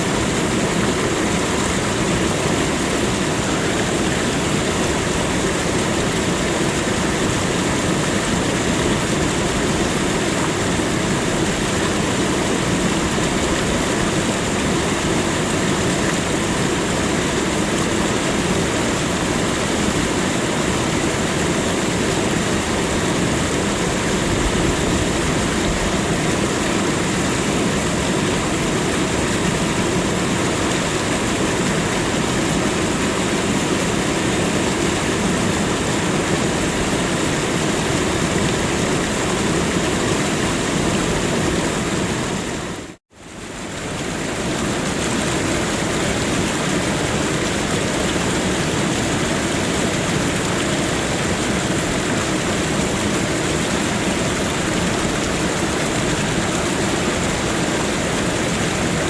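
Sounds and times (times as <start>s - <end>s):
waterfall crashing into pool: 0.0s - 59.0s.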